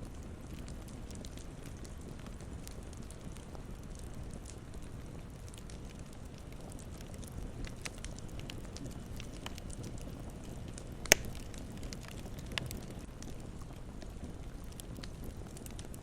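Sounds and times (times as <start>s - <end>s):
campfire hiss and rumble: 0.0s - 16.0s
fire crackles: 0.0s - 16.0s
sharp fire pops: 0.1s - 16.0s.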